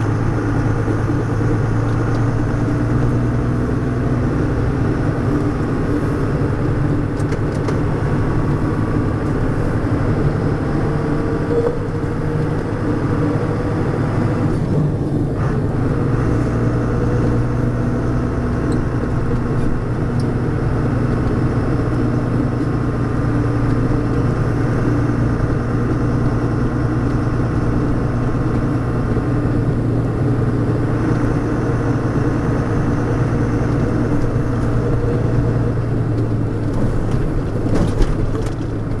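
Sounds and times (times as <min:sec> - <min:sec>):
gearbox and differential whine: 0:00.0 - 0:39.0
truck diesel engine running: 0:00.0 - 0:39.0.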